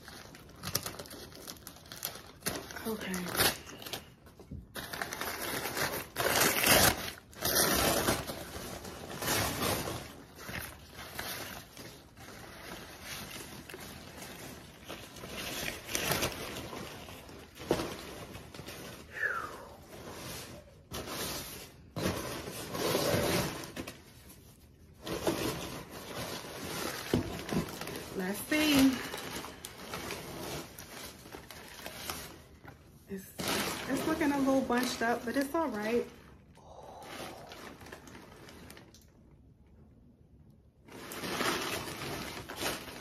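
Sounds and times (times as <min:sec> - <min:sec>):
paper crinkling and rustling: 0:00.0 - 0:19.1, 0:20.0 - 0:36.2, 0:37.5 - 0:39.1, 0:40.8 - 0:43.0.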